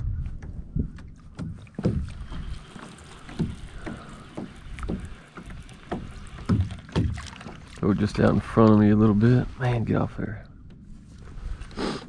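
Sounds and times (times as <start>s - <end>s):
water slapping against boat hull: 0.0s - 10.0s
low wind rumble: 0.0s - 11.8s.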